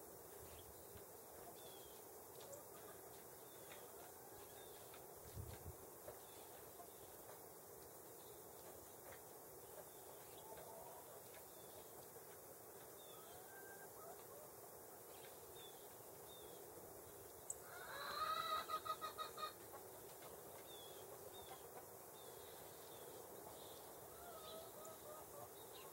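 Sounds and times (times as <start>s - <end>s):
faint high chirps of small birds: 0.0s - 25.9s.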